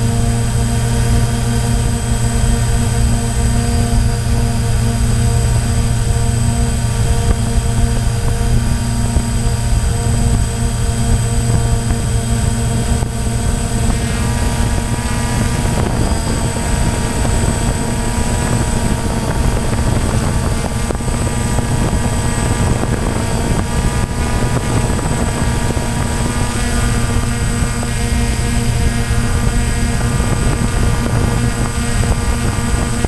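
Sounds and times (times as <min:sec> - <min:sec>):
drone propellers buzzing: 0:00.0 - 0:33.0.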